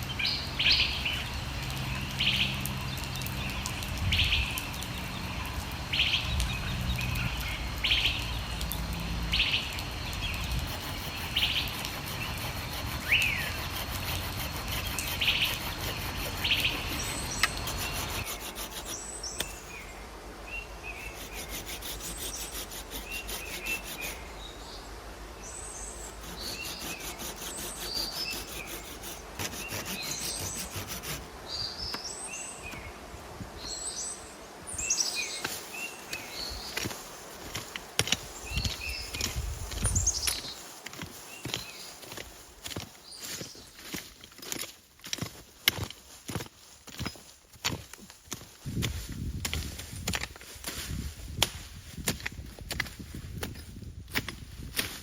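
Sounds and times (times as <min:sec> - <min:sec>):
birds chirping: 0:00.0 - 0:33.0, 0:33.6 - 0:45.9.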